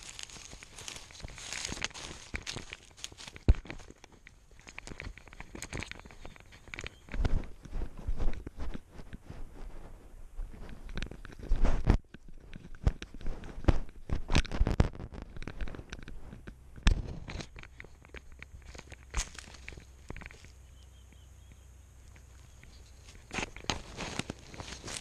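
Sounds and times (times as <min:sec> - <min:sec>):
leaves and brush rustling: 0:00.0 - 0:25.0.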